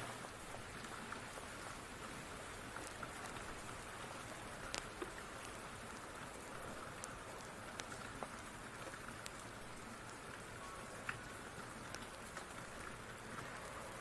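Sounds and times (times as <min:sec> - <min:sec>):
steady rain: 0:00.0 - 0:14.0
wood fire crackling and popping: 0:00.2 - 0:14.0.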